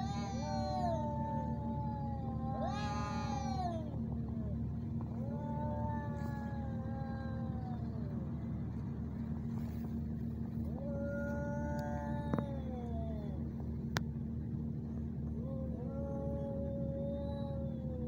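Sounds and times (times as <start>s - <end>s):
cats yowling: 0.0s - 9.0s, 10.6s - 13.7s, 15.3s - 18.0s
low hum: 0.0s - 18.0s.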